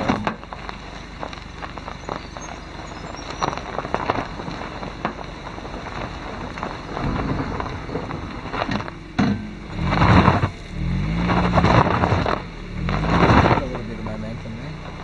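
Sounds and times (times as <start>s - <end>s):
car tyres crunching over gravel: 0.0s - 15.0s.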